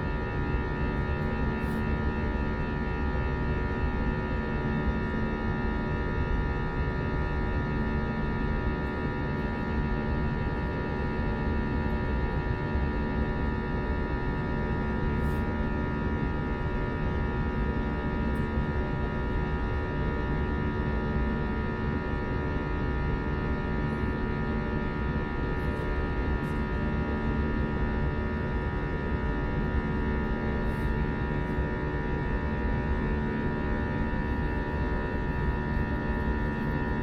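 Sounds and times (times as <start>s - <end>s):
jet engine drone in cabin: 0.0s - 37.0s.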